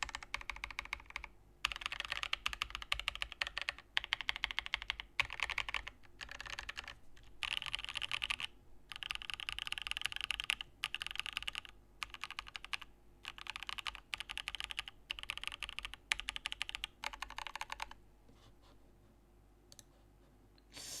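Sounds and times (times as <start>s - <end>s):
typing on mechanical keyboard: 0.0s - 18.0s.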